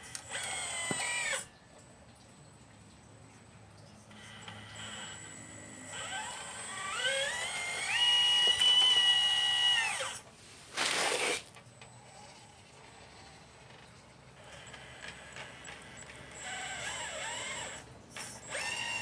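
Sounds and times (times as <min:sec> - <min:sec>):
small electric motor whining: 0:00.0 - 0:01.5, 0:04.1 - 0:13.5, 0:14.4 - 0:19.0.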